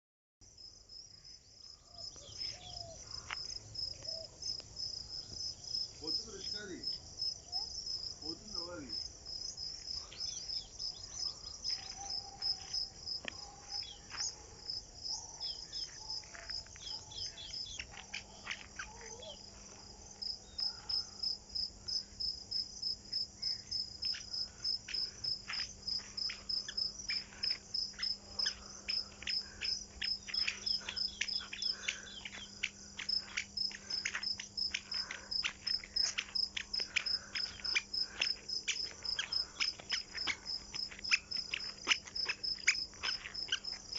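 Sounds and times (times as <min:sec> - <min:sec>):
insects chirping rhythmically: 0:00.4 - 0:43.9.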